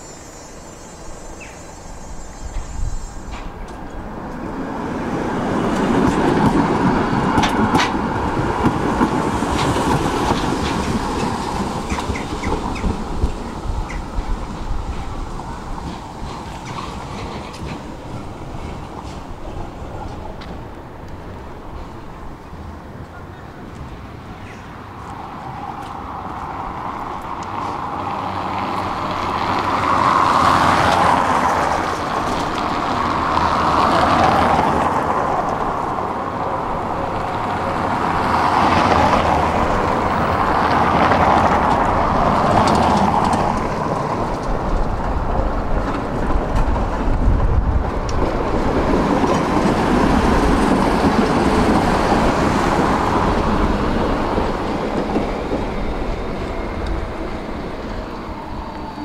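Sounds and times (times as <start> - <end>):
tram wheels on rails: 0.0 - 59.0.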